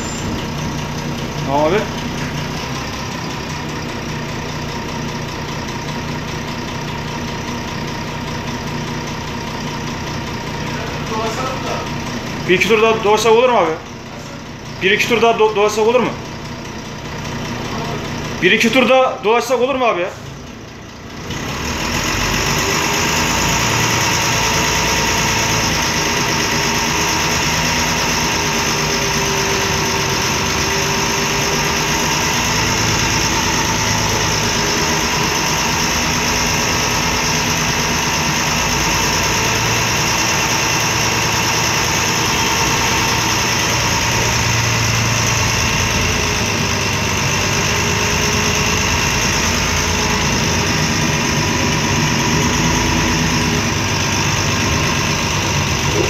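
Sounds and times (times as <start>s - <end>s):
bus diesel engine idling: 0.0s - 56.0s.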